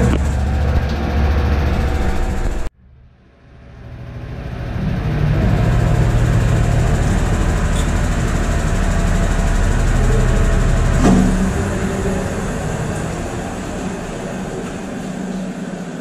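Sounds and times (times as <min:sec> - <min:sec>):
washing machine spinning: 0:00.0 - 0:02.7, 0:03.4 - 0:16.0.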